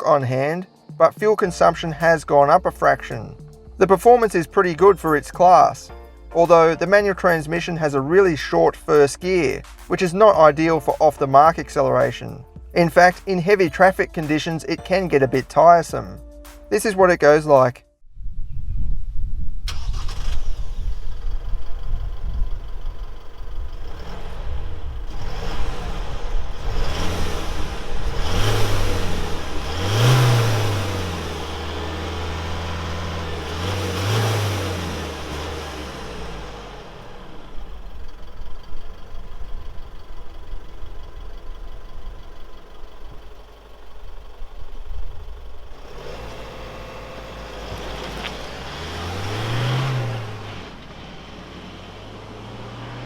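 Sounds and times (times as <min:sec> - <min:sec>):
diesel engine accelerating: 0:00.9 - 0:16.1, 0:19.7 - 0:53.0.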